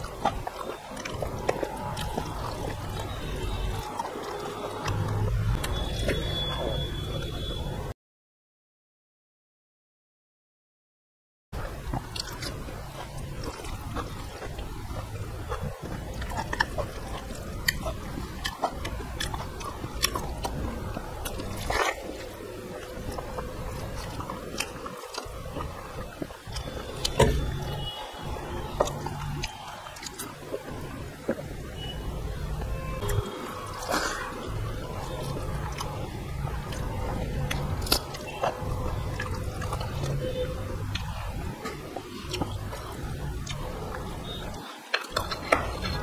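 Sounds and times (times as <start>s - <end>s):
chewing and mouth clicks: 0.0s - 7.2s, 11.6s - 46.0s.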